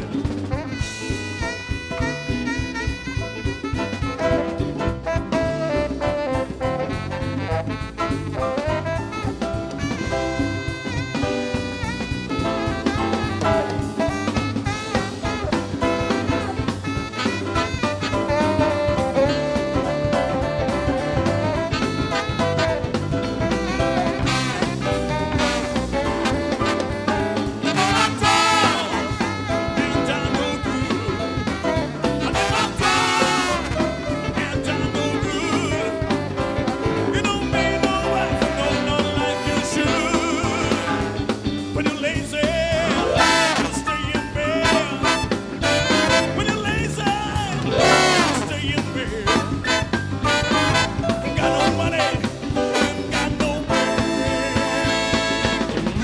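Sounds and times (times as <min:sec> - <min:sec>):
drum kit: 0:00.0 - 0:56.0
saxophone and brass horns: 0:00.0 - 0:56.0.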